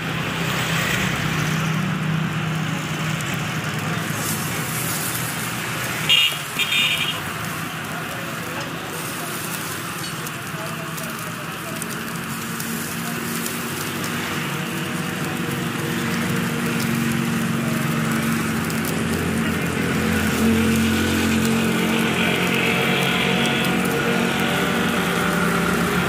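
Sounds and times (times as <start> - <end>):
hiss: 3.1 - 26.0.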